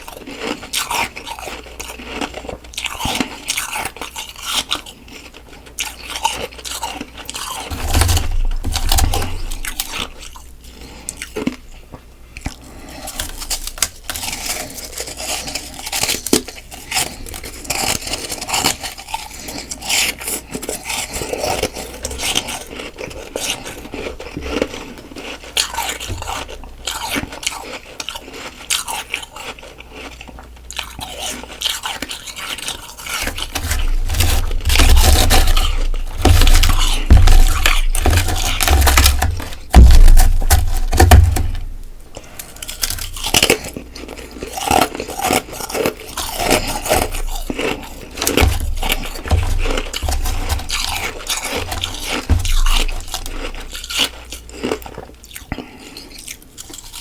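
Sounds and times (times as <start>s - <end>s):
chewing crunchy frost: 0.0s - 57.0s.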